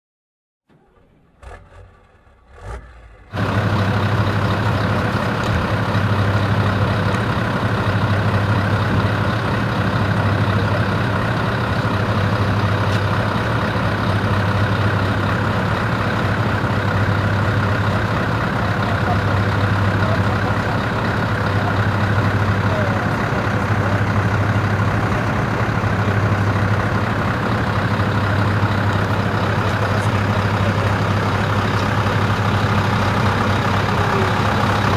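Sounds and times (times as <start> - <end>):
truck engine deep hum: 1.3 - 34.9.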